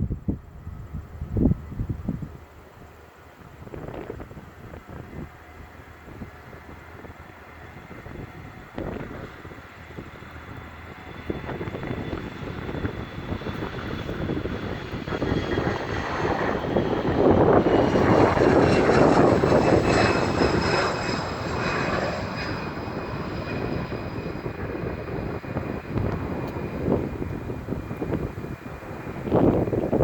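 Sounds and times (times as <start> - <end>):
jet rumble passing: 0.0 - 30.0.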